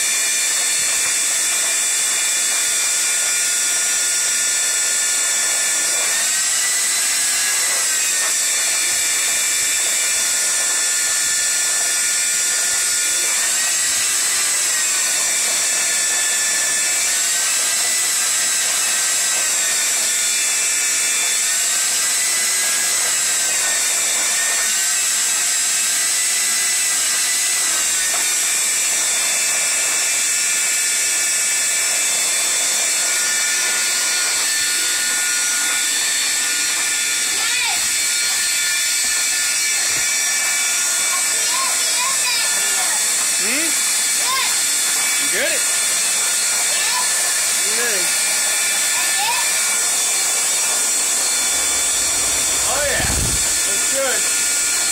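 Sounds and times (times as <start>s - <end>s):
shop vacuum whining: 0.0s - 54.9s.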